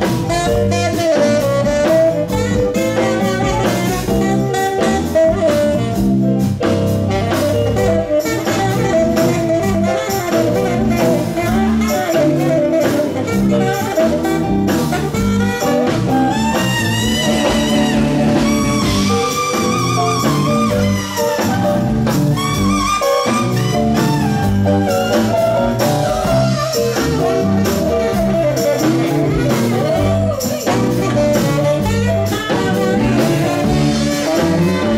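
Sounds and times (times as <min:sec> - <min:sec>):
live blues band playing: 0:00.0 - 0:34.9.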